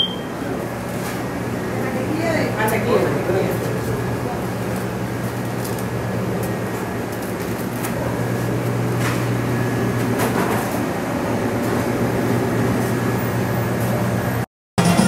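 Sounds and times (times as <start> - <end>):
low electrical machine hum: 0.0 - 14.4.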